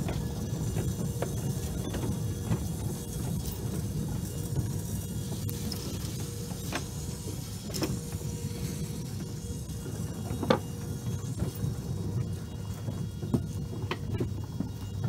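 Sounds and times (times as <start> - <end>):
locomotive wheels rumbling: 0.0 - 15.0.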